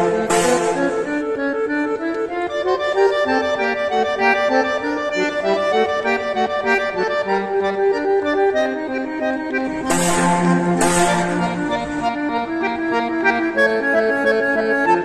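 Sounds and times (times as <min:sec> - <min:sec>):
accordion playing quick melody: 0:00.0 - 0:15.0.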